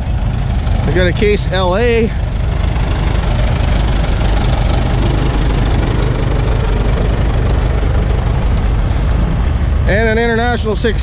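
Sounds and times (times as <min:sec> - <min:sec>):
tractor engines running: 0:00.0 - 0:11.0.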